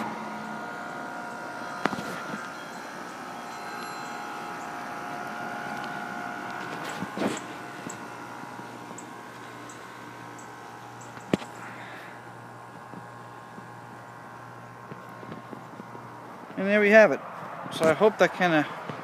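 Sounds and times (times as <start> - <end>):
air conditioner units humming: 0.0 - 19.0.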